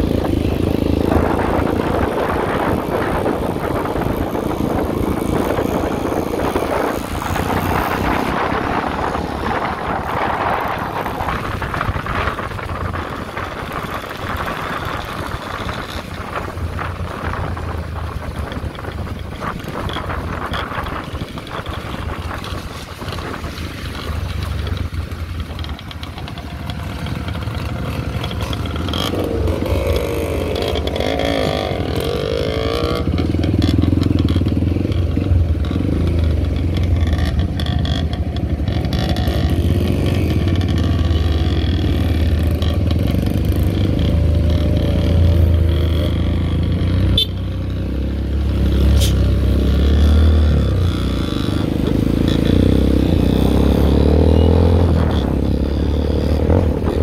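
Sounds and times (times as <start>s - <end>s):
motorcycle engines running: 0.0s - 57.0s.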